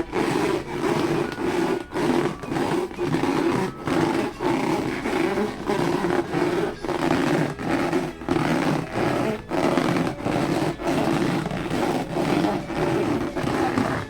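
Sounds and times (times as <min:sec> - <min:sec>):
rubber balloons squeaking: 0:00.0 - 0:14.0.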